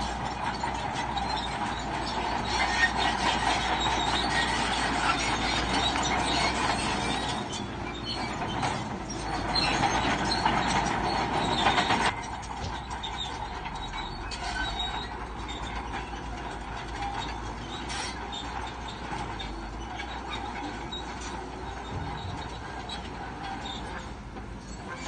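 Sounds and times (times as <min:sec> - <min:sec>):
bulldozer engine running: 0:00.0 - 0:25.0
crawler tracks clanking and squealing: 0:00.0 - 0:25.0.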